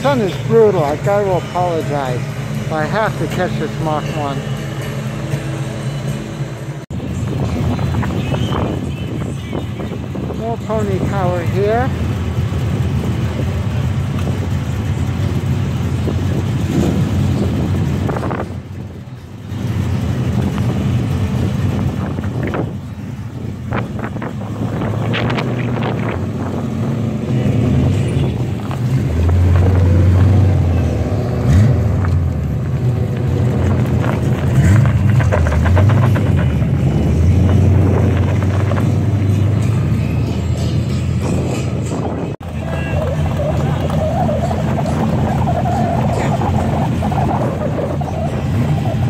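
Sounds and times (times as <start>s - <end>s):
car engines idling: 0.0s - 49.0s
deep exhaust rumble: 0.0s - 49.0s.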